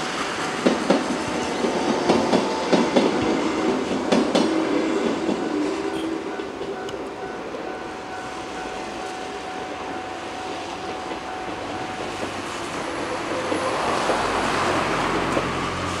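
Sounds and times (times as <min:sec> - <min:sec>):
steady high tone: 0:00.0 - 0:13.9
electric train wheel and motor noise: 0:00.0 - 0:16.0.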